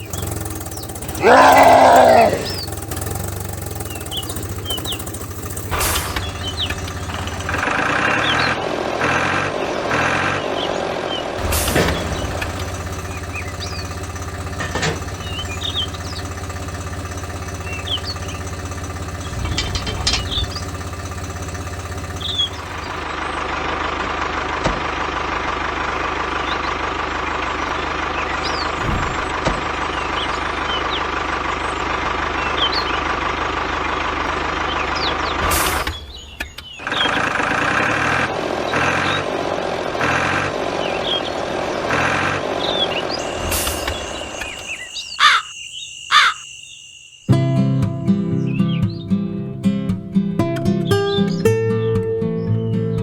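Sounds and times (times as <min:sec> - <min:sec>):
tractor engine running: 0:00.0 - 0:46.4.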